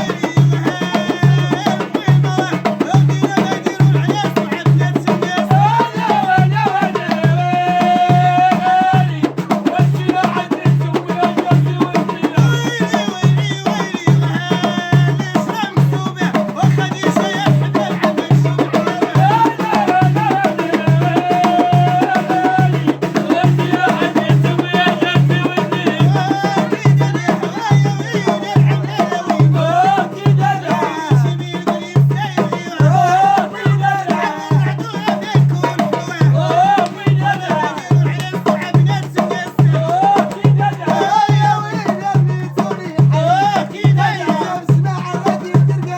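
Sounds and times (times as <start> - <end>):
steady drum beat: 0.0 - 45.9.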